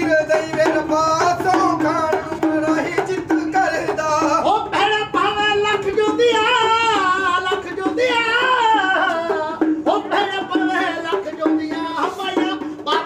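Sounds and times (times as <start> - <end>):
light drumming: 0.0 - 13.0
person singing folk song: 0.0 - 13.0.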